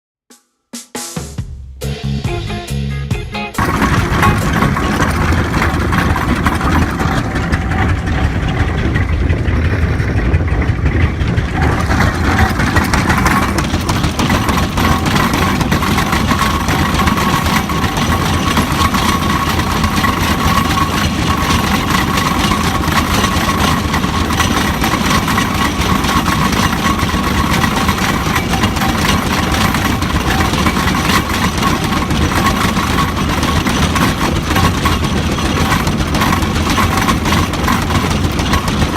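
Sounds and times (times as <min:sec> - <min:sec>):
steam traction engine running: 0:02.0 - 0:38.9.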